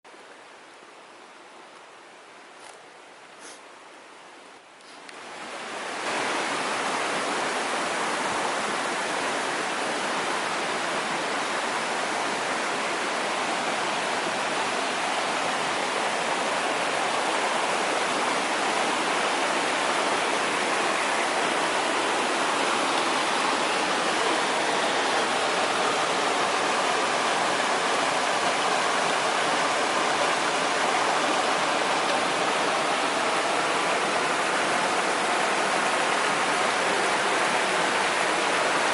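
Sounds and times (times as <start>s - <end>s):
stream water rushing: 0.1s - 38.9s.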